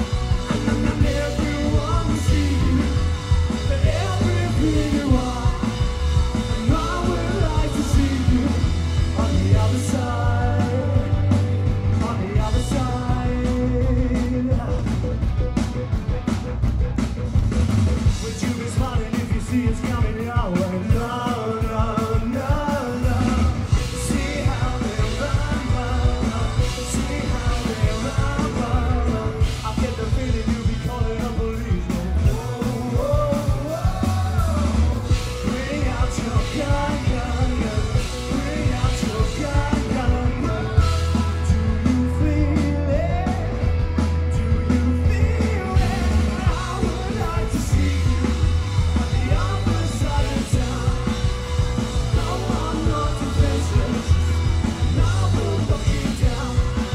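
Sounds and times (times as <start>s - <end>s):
people singing into microphones: 0.0s - 14.9s, 18.2s - 43.8s, 44.8s - 56.9s
drums: 0.0s - 56.9s
electric guitars: 0.0s - 56.9s.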